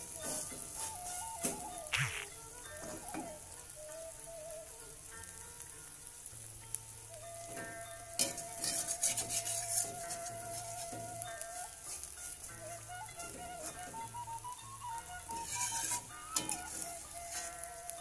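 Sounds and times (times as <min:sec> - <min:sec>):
oil crackling and spitting: 0:00.0 - 0:18.0
omelette sizzling in hot oil: 0:00.0 - 0:18.0.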